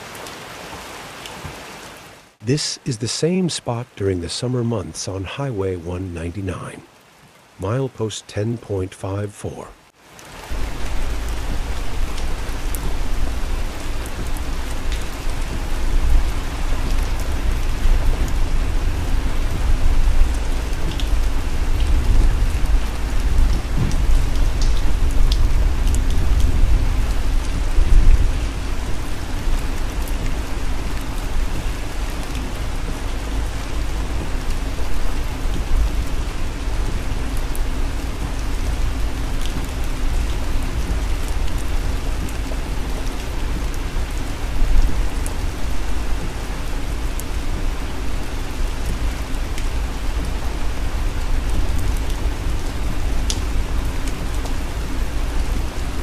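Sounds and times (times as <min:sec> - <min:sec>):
rain pattering on a car: 0:00.0 - 0:02.4, 0:09.6 - 0:56.0.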